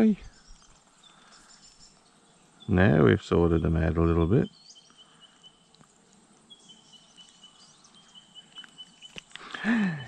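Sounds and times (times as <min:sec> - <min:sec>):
insect trilling: 0:00.0 - 0:10.0.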